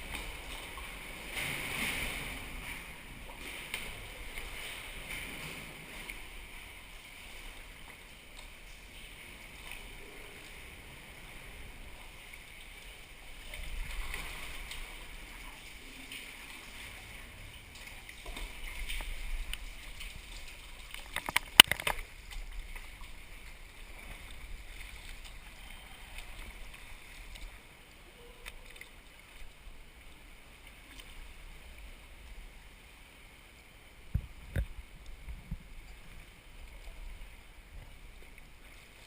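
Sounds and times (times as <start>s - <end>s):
water splashing around kayak: 0.0s - 39.0s.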